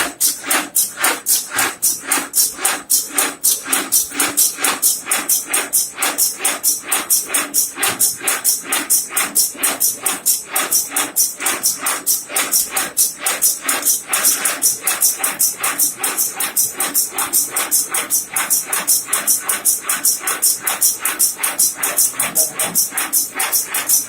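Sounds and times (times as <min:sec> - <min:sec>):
machine clattering rhythmically: 0:00.0 - 0:24.0.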